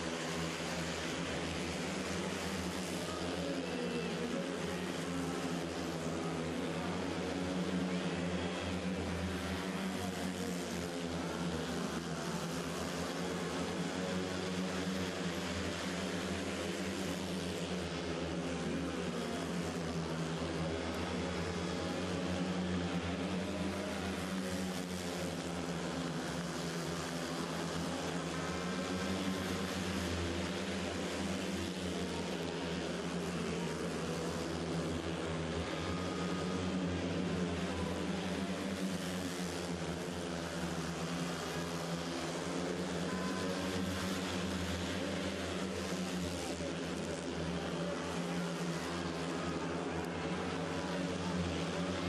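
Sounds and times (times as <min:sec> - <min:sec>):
motorcycles racing: 0:00.0 - 0:52.0.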